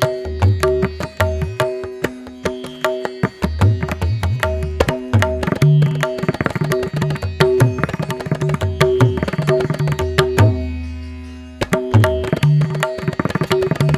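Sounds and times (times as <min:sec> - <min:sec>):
hand drum rhythm: 0:00.0 - 0:10.6, 0:11.6 - 0:13.9.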